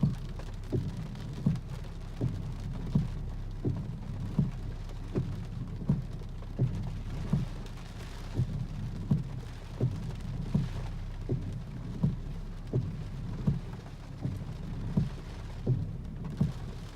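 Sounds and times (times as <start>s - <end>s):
rain: 0.0s - 16.9s
regular low thump: 0.0s - 16.9s.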